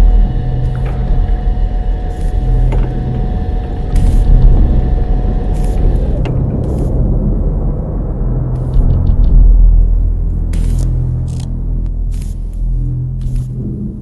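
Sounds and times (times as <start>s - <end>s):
low rumbling drone: 0.0s - 14.0s.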